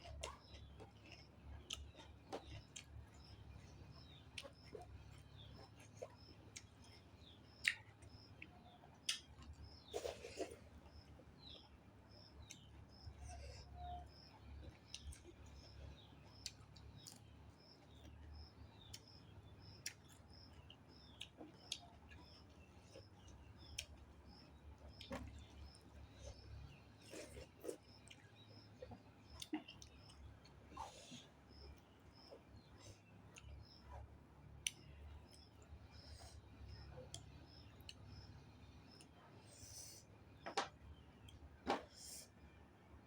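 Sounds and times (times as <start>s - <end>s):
chewing: 0.0s - 38.0s.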